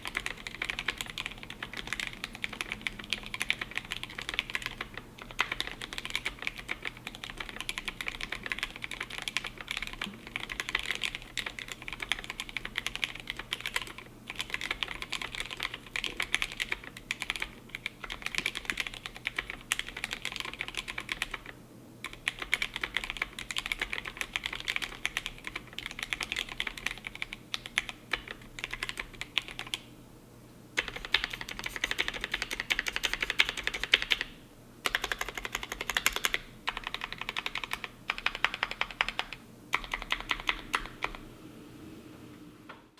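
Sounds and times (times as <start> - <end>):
mechanical keyboard typing: 0.0 - 29.8, 30.8 - 41.2.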